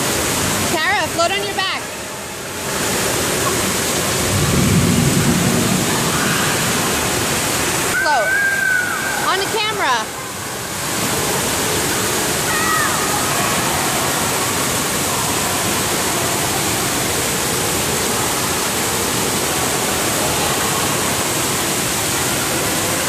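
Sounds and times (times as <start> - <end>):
fountain spraying into pool: 0.0 - 23.0.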